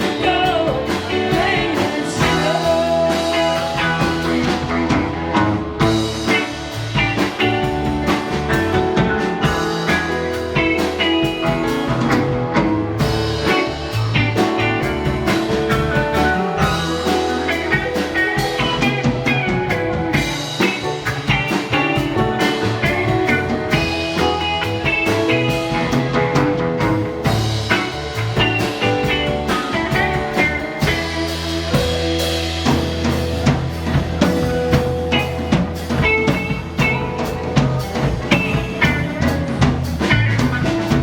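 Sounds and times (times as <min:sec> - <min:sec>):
electric guitar lines: 0:00.0 - 0:41.0
rock band playing: 0:00.0 - 0:41.0.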